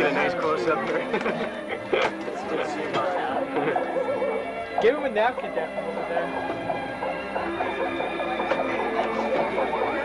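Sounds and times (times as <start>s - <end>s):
background music: 0.0s - 10.0s
overlapping indistinct voices: 0.0s - 10.0s.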